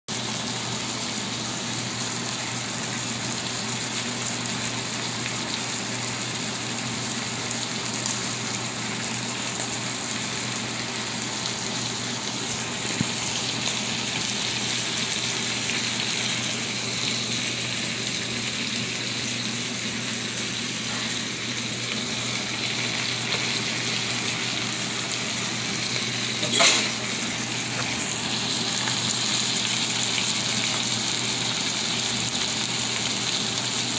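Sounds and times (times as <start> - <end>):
food sizzling in a skillet: 0.1 - 33.9.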